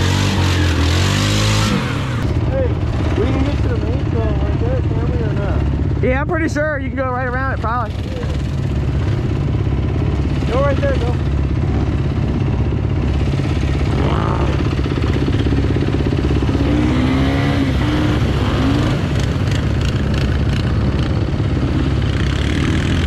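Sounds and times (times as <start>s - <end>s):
vehicle engine running steadily: 0.0s - 23.0s.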